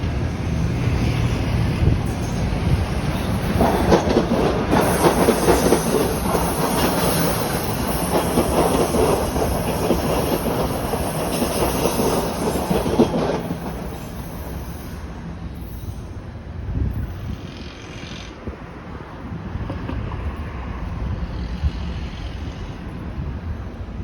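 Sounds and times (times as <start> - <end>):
subway train wheels clacking: 0.0 - 24.0.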